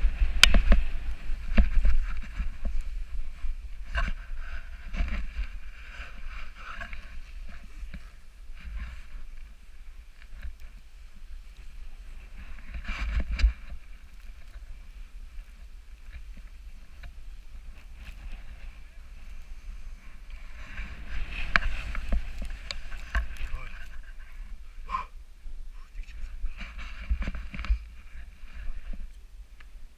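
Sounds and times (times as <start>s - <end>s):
snowboard scraping over snow: 0.0s - 24.5s
wind rumbling on microphone: 0.0s - 29.9s.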